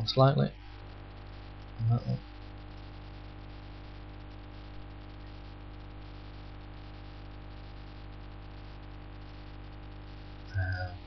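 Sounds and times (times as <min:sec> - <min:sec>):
electrical mains hum: 0:00.0 - 0:11.0
low hiss: 0:00.0 - 0:11.0.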